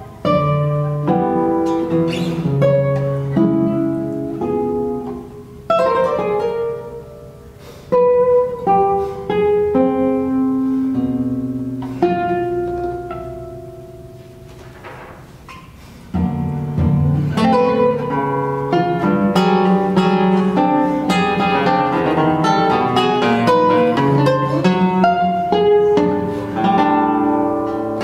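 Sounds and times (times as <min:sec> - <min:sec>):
classical guitar playing: 0:00.0 - 0:28.0.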